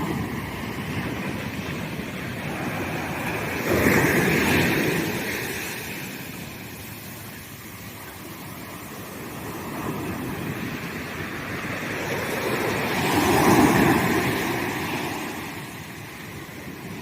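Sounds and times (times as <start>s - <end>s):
sea waves breaking on sand: 0.0s - 17.0s.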